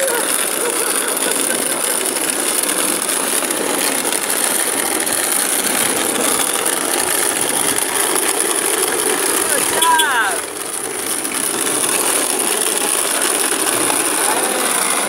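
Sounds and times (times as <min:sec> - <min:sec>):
cart wheels rolling on pavement: 0:00.0 - 0:15.0.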